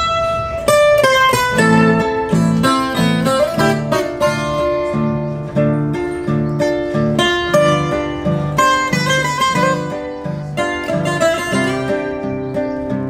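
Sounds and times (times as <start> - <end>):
plucked guitars playing: 0.0 - 13.0.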